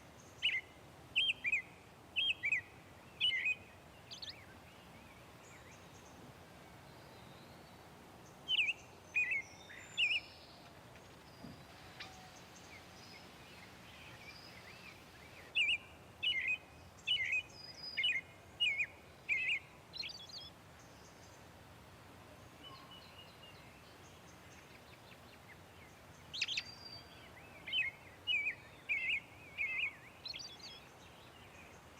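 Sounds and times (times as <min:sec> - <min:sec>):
faint steady hiss: 0:00.0 - 0:31.9
bird chirping: 0:00.2 - 0:21.5, 0:22.5 - 0:31.9.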